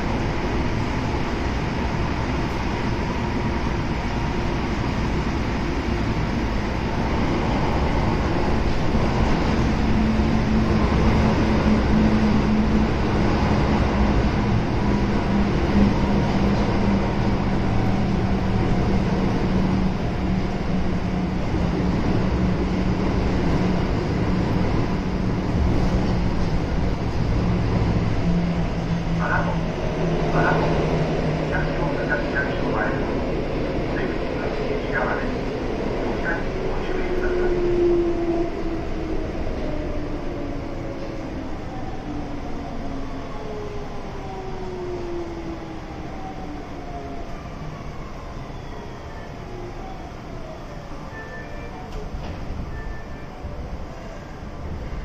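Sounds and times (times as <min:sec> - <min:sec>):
train running gear rumble: 0:00.0 - 0:44.5, 0:51.9 - 0:55.0.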